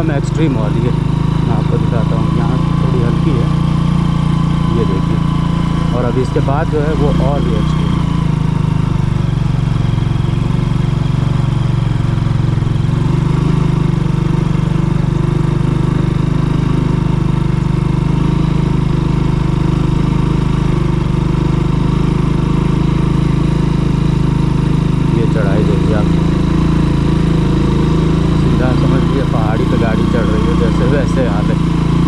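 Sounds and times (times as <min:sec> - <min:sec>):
vehicle engine droning: 0:00.0 - 0:32.0.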